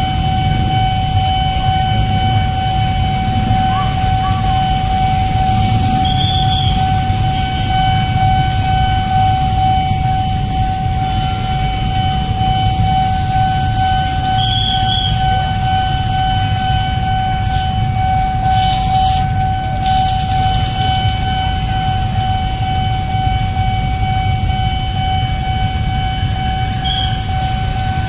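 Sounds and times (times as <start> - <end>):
motorbike and street traffic: 0.0 - 23.2
level crossing alarm tone: 0.0 - 28.0.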